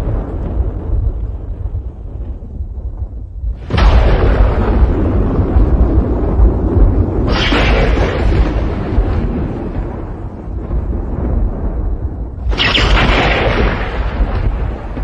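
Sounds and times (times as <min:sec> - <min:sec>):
strong gusting wind: 0:00.0 - 0:15.0
wind buffeting microphone: 0:00.0 - 0:15.0.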